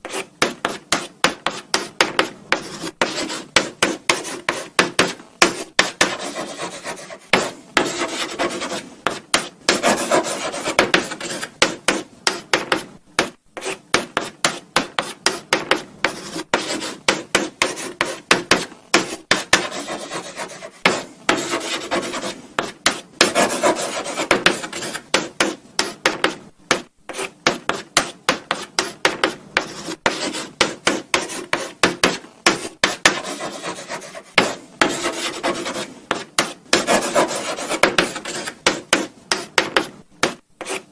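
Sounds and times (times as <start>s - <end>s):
chalk scratching on blackboard: 0.0s - 26.4s, 27.1s - 40.9s.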